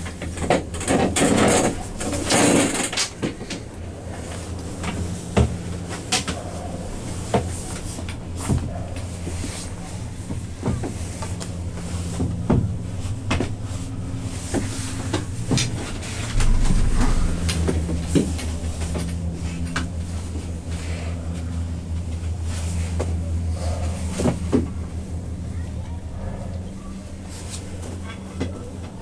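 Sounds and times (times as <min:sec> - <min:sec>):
deep rumble: 0:00.0 - 0:29.0
gondola cabin hum: 0:00.0 - 0:29.0.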